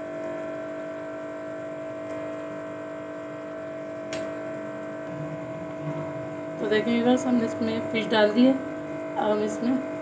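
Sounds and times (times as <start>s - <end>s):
steady multi-tone hum: 0.0s - 10.0s.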